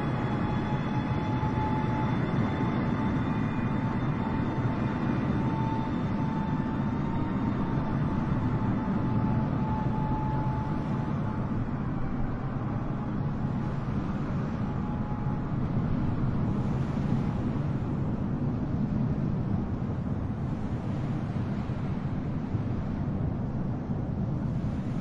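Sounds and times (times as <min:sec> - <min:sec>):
jet airliner cabin noise: 0:00.0 - 0:25.0.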